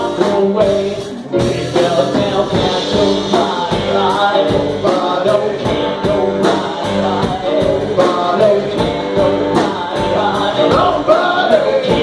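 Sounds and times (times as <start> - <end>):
live rock and roll band: 0.0 - 12.0
man singing: 0.0 - 12.0.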